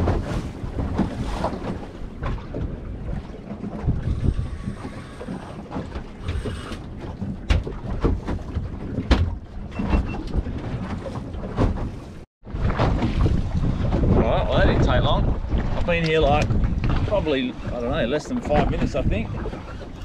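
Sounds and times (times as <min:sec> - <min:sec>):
water washing around boat: 0:00.0 - 0:20.0
wind buffeting microphone: 0:00.0 - 0:20.0.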